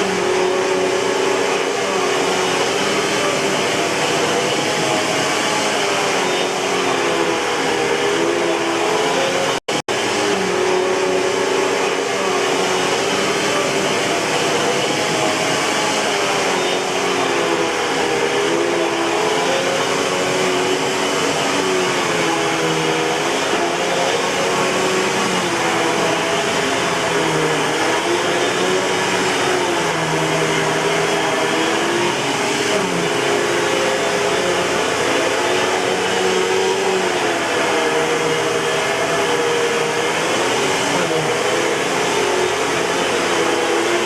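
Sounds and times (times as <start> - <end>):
vacuum cleaner whining: 0.0 - 44.0.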